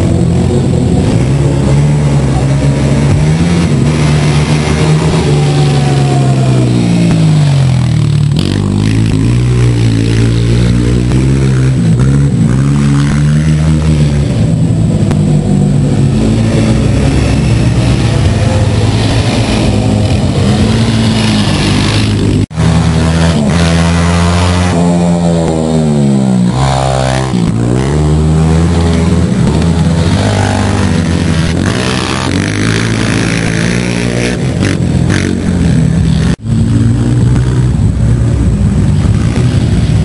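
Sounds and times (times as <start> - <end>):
quad engines racing: 0.0 - 40.0.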